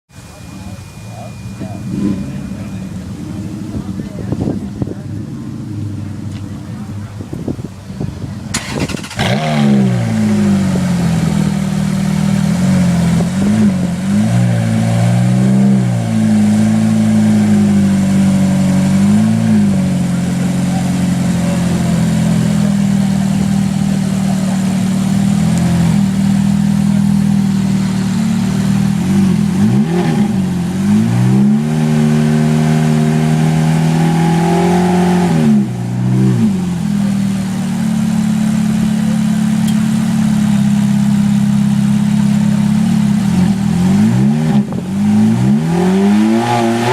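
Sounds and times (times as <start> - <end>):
sports car engine revving: 0.2 - 46.9.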